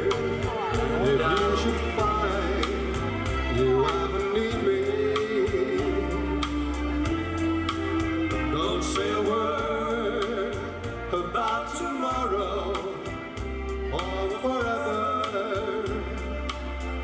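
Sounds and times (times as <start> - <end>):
man singing into microphone: 0.0 - 7.0, 8.3 - 16.7
amplified backing music with beat: 0.0 - 17.0.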